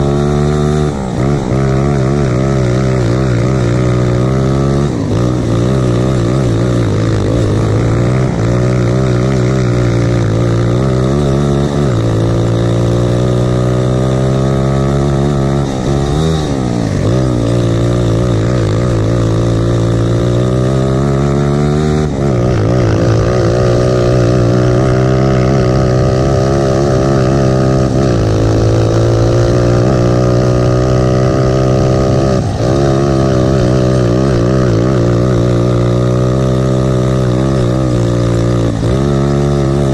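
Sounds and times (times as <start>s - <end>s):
kart engine revving hard: 0.0s - 39.9s.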